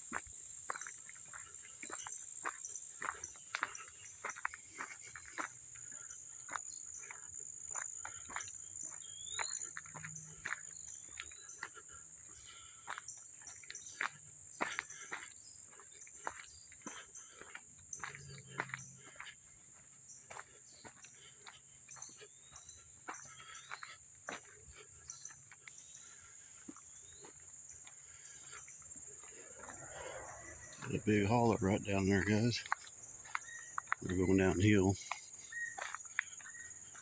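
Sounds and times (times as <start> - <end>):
footsteps on rocky trail: 0.0 - 37.0.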